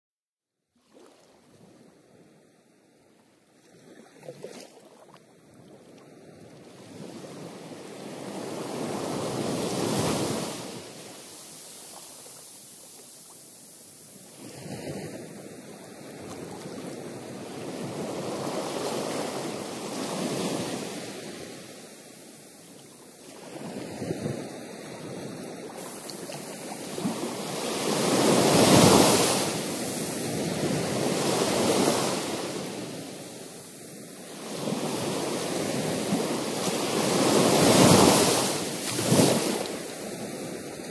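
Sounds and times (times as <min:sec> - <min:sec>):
ocean waves breaking: 0:05.8 - 0:22.5, 0:23.2 - 0:40.9.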